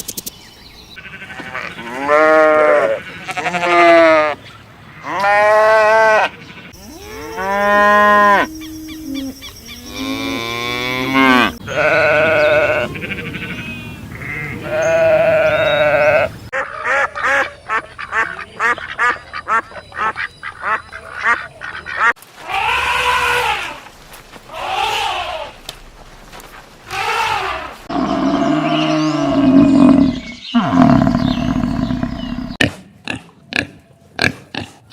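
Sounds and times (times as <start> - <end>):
farm animals bleating and calling: 0.9 - 25.8, 26.9 - 34.9.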